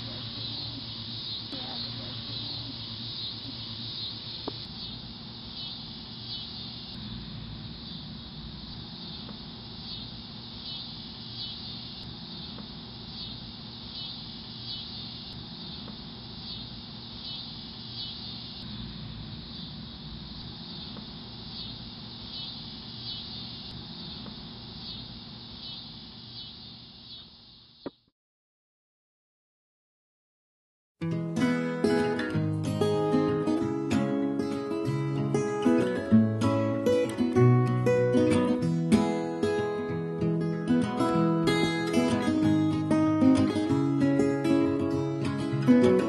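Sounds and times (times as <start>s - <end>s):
insects chirping: 0.0s - 28.0s, 31.0s - 46.0s.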